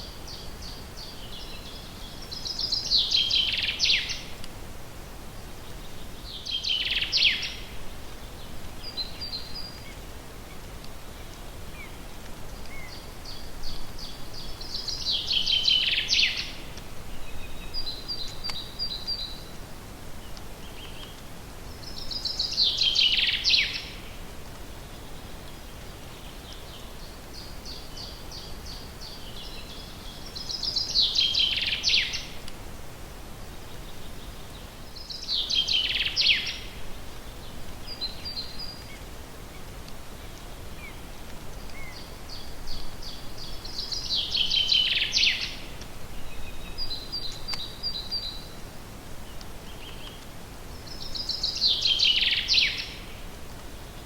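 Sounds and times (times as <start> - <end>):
songbird singing: 0.0 - 32.6, 33.5 - 54.0
faint background hiss: 0.0 - 54.0.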